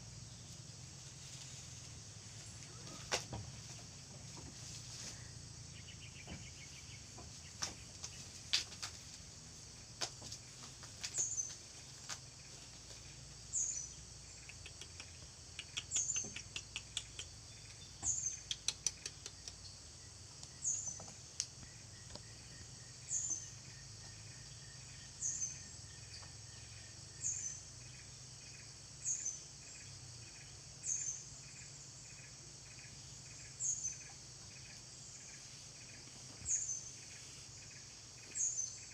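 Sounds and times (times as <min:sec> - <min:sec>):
insect hiss: 0:00.0 - 0:38.9.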